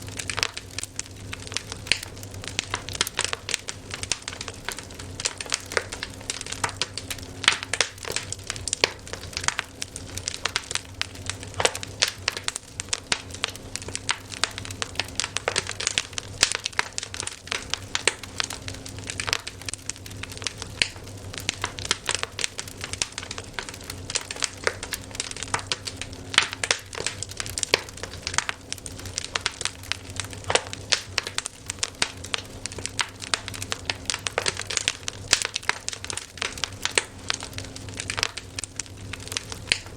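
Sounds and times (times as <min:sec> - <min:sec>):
campfire crackling: 0:00.0 - 0:39.9
low steady hum: 0:00.0 - 0:39.9.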